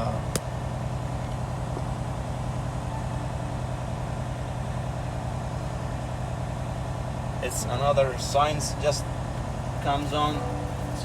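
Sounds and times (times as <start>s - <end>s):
truck diesel engine humming: 0.0s - 11.0s.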